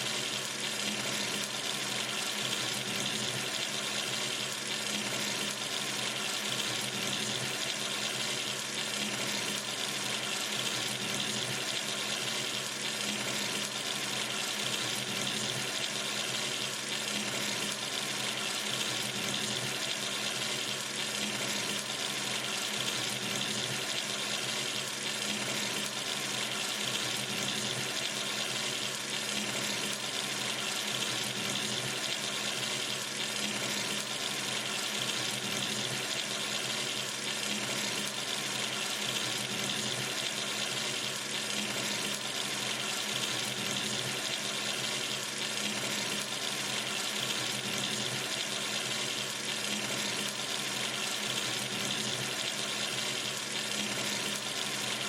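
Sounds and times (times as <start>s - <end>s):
sink tap running: 0.0s - 55.0s.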